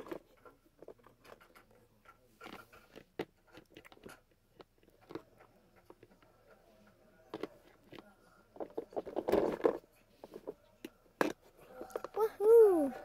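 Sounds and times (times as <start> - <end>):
plastic toys clicking and tapping: 0.0 - 12.6.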